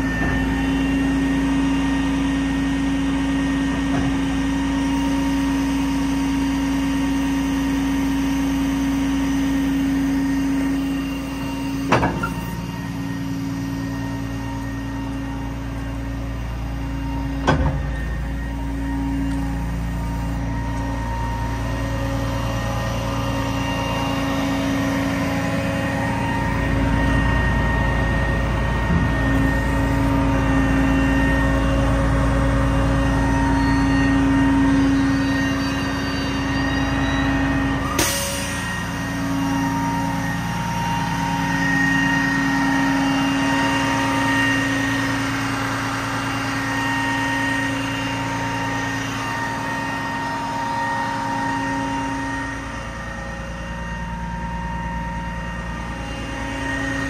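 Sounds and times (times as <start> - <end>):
diesel truck engine running: 0.0 - 57.0
steady whine: 0.0 - 57.0.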